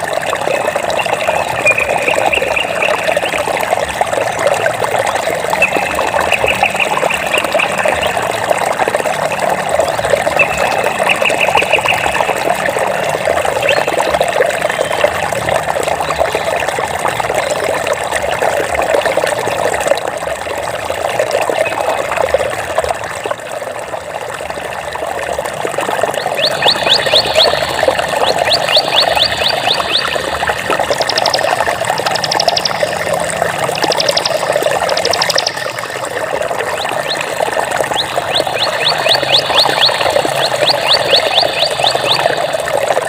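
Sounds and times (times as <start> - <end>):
water trickling and bubbling: 0.0 - 43.0.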